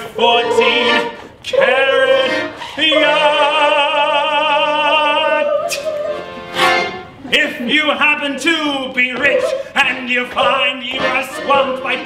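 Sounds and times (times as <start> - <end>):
operatic singing in high voice: 0.0 - 6.3, 7.3 - 12.0.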